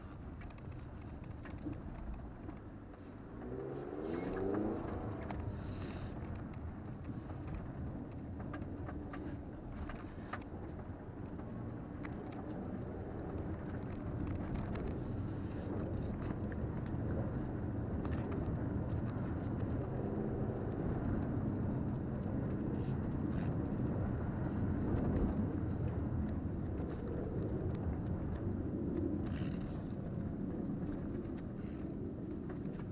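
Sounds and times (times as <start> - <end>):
engine and tyres rumbling: 0.0 - 32.9.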